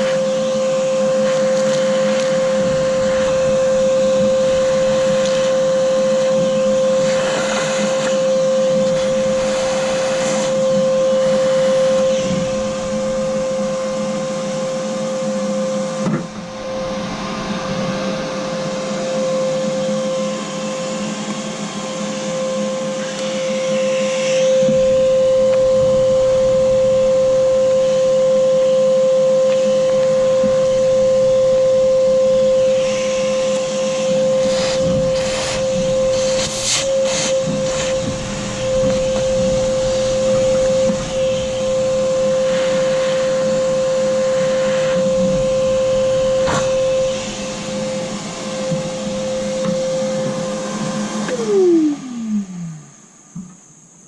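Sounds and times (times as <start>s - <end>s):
vacuum cleaner motor whine: 0.0s - 54.0s.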